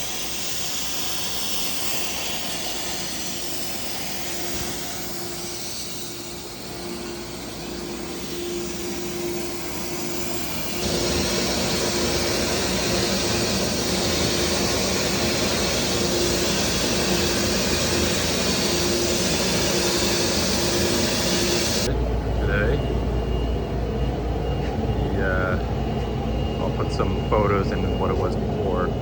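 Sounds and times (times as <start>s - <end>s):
machine motor humming: 2.1s - 29.0s.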